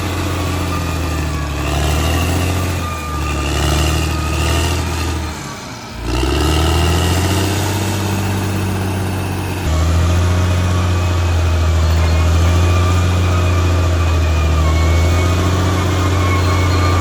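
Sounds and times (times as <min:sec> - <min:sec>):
bulldozer diesel engine running: 0:00.0 - 0:17.0
faint high whine: 0:00.0 - 0:17.0.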